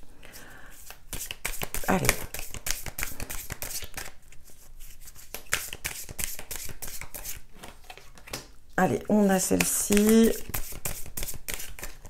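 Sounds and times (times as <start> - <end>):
cards shuffled by hand: 0.7 - 8.5, 9.4 - 12.0.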